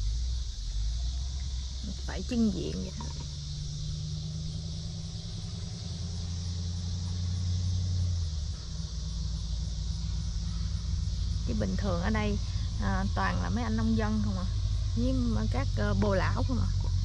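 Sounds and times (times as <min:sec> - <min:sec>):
cicadas buzzing: 0:00.0 - 0:17.0
low mechanical hum: 0:00.0 - 0:17.0.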